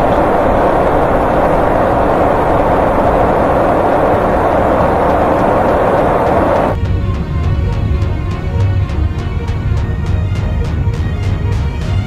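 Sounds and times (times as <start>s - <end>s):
jet aircraft drone: 0.0s - 12.0s.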